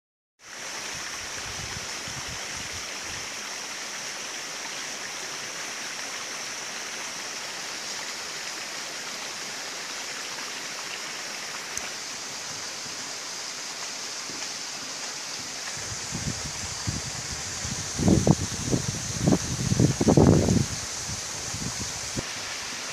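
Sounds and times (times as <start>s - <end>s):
even rushing hiss: 0.4s - 22.9s.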